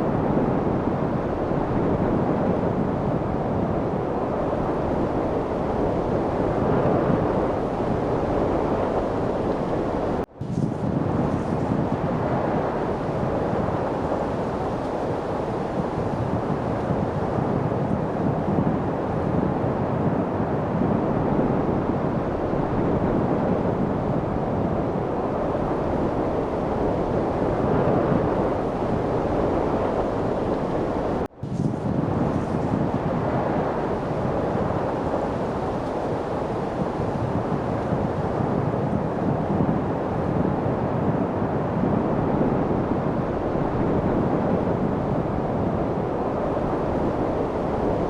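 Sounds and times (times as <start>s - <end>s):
rushing wind: 0.0s - 48.0s.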